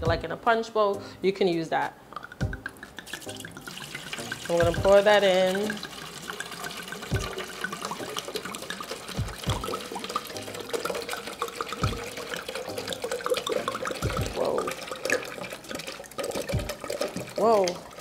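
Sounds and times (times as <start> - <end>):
wine pouring from a bottle: 2.2 - 18.0.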